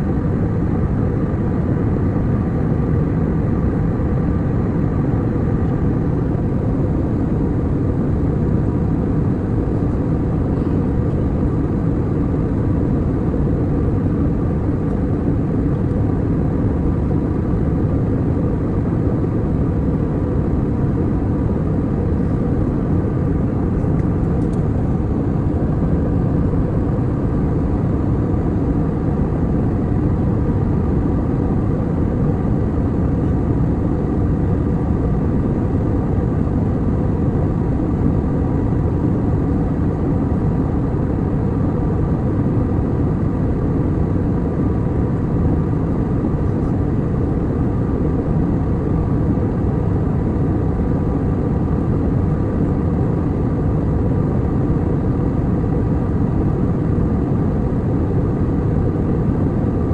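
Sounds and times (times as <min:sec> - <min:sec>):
faint steady hum: 0:00.0 - 0:59.9
jet engines and airflow rumble: 0:00.0 - 0:59.9.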